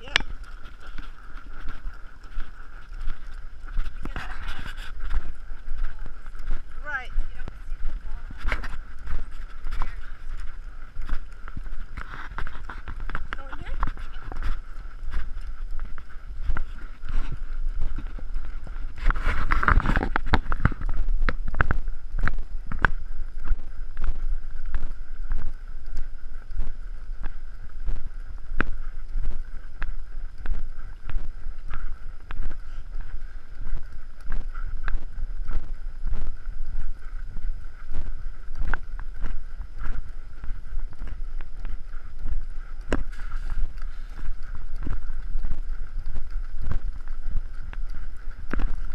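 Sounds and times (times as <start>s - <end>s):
hooves clopping on sand: 0.0s - 48.9s
wind rumble on microphone: 0.0s - 48.9s.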